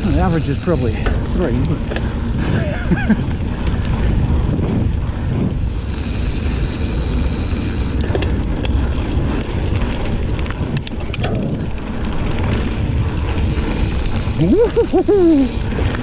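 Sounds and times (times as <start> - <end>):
bike clicks and rattles: 0.0 - 16.0
bike tyres rolling on dirt: 0.0 - 16.0
wind buffeting microphone: 0.0 - 16.0.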